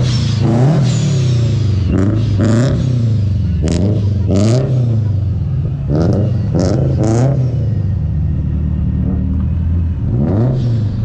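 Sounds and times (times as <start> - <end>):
engine throttle blips: 0.0 - 11.0
sports car engines running: 0.0 - 11.0.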